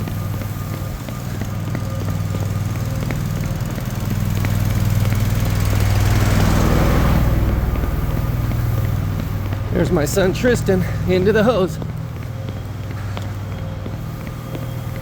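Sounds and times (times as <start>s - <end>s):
concrete pump engine humming: 0.0s - 15.0s.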